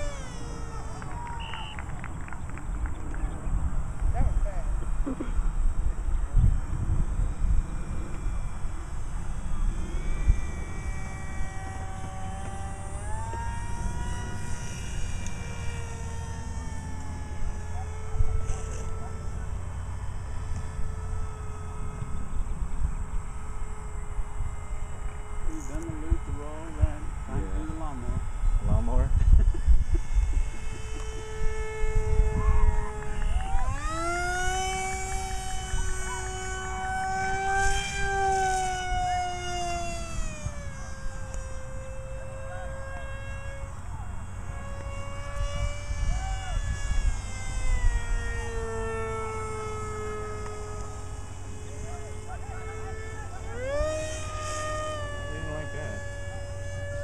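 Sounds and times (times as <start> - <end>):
model airplane motor whining: 0.0 - 57.0.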